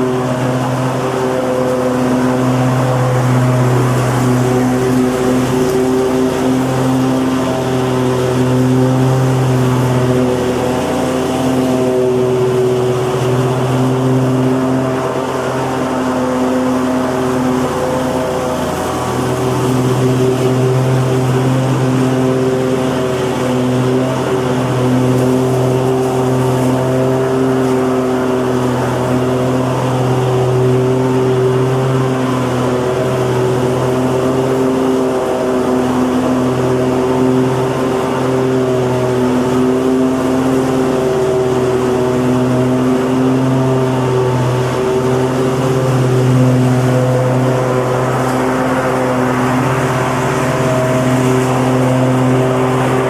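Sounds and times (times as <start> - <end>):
lawnmower engine running: 0.0 - 53.0.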